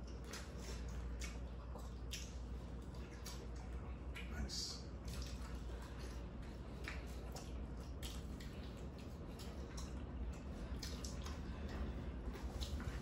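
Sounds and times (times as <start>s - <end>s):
people chewing with smacking sounds: 0.0s - 13.0s
steady low hum: 0.0s - 13.0s.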